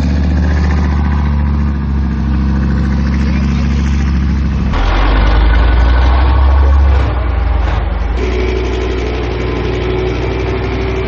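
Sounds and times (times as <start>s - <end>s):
diesel engine low drone: 0.0s - 11.0s.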